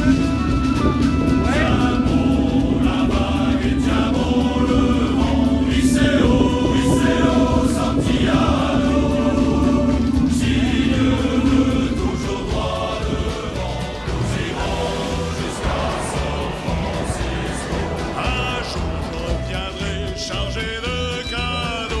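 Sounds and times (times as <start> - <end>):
sustained low note: 0.0 - 20.8
choir singing: 0.0 - 22.0.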